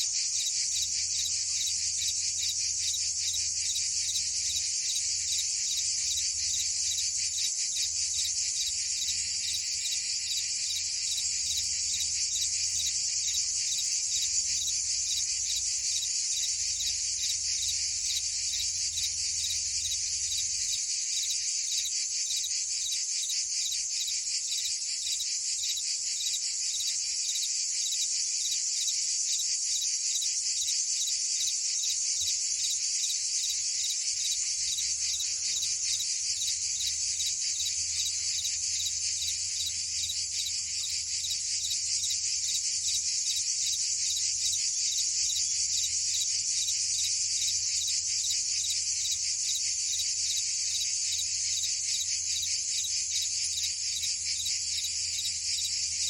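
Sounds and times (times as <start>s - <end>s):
crickets and cicadas trilling: 0.0s - 56.0s.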